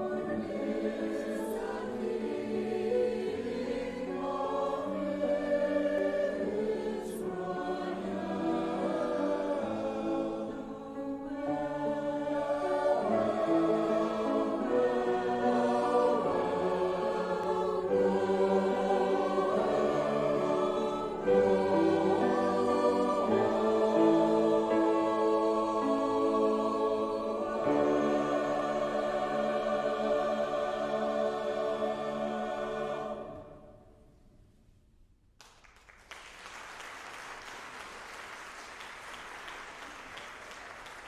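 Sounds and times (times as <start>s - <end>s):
choir singing a hymn: 0.0s - 34.1s.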